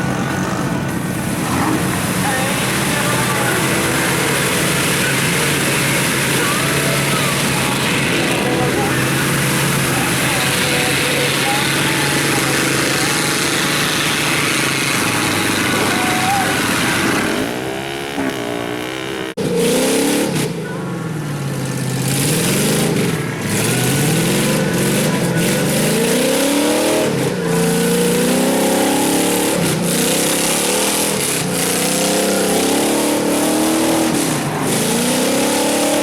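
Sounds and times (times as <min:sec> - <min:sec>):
engine revving hard: 0:00.0 - 0:20.6, 0:21.3 - 0:36.0.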